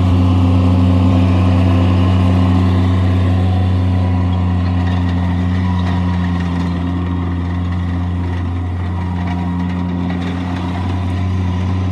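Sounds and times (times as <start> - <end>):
loader diesel engine running: 0.0 - 11.9.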